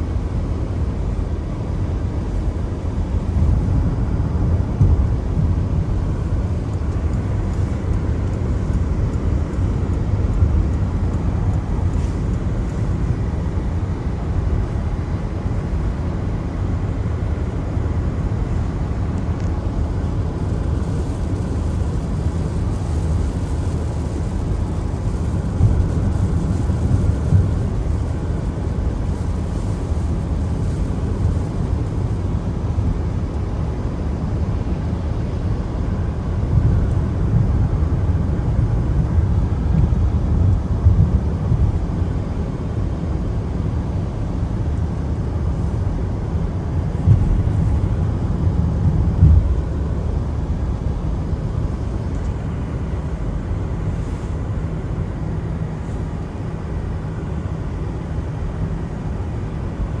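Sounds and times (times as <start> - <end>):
car tyres on wet road: 0.0 - 60.0.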